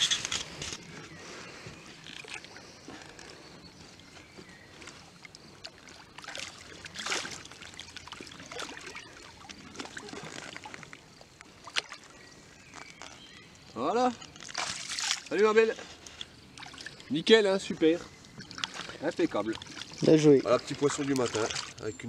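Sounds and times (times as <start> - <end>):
water splashing and trickling: 0.9 - 22.0.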